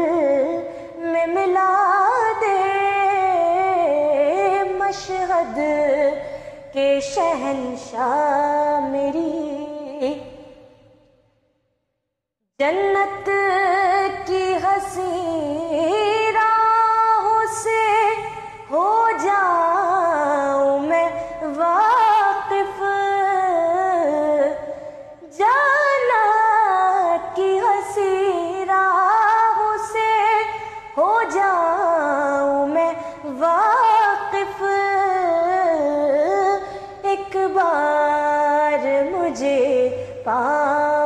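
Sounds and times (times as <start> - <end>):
woman singing devotional song: 0.0 - 10.8, 12.6 - 41.0.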